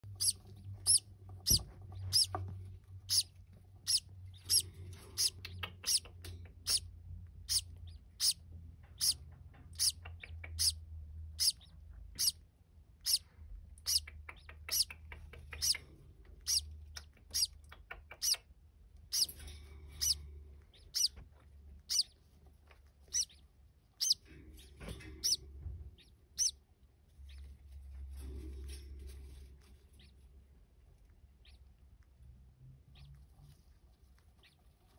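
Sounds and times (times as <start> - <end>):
parrot chicks begging peeps: 0.0 - 28.8, 29.5 - 32.2, 32.8 - 33.6.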